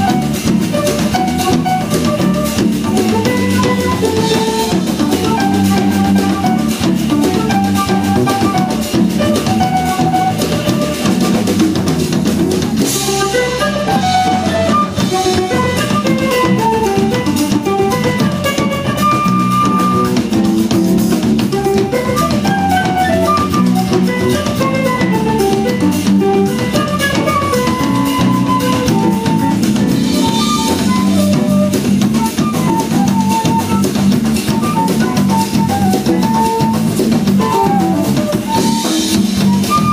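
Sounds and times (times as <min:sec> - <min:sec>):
drum kit beat: 0:00.0 - 0:39.9
instrument soloing quick notes: 0:00.0 - 0:39.9
small jazz band playing: 0:00.0 - 0:39.9.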